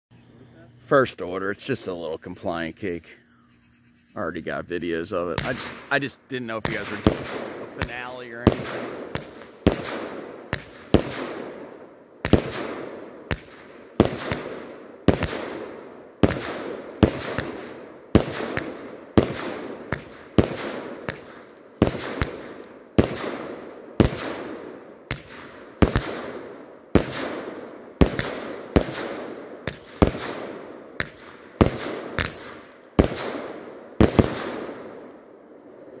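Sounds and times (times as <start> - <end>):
fireworks sharp bangs: 4.2 - 35.4.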